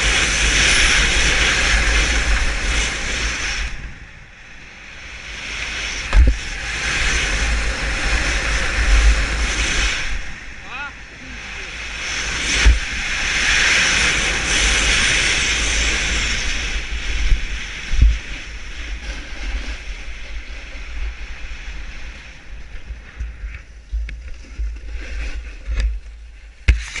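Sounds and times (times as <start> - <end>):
snowboard sliding over snow: 0.0 - 27.0
wind on microphone: 0.0 - 27.0.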